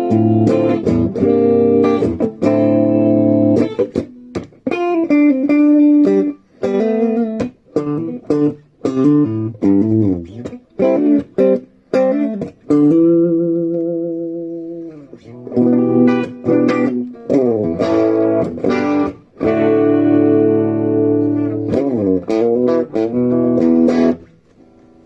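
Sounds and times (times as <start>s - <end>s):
electric guitar chords and phrases: 0.0s - 25.0s.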